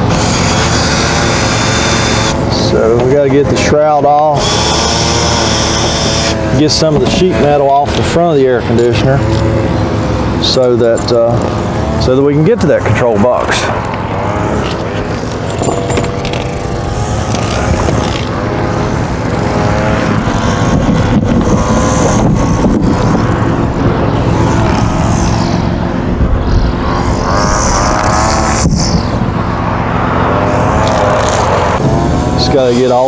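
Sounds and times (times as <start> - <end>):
small gasoline engines running: 0.0 - 33.0.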